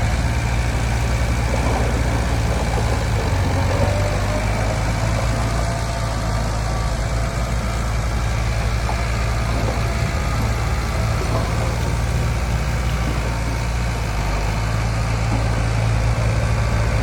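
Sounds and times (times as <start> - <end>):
heavy diesel engine humming: 0.0 - 17.0.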